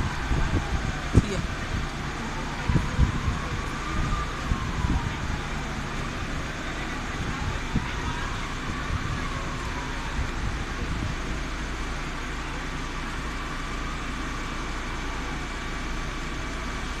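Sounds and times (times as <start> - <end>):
fire engines rumbling: 0.0 - 17.0.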